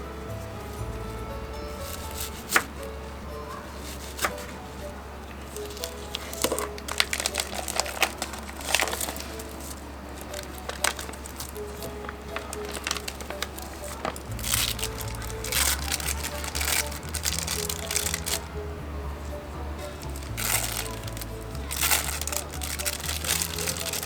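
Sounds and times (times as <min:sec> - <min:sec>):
soft background music: 0:00.0 - 0:24.0.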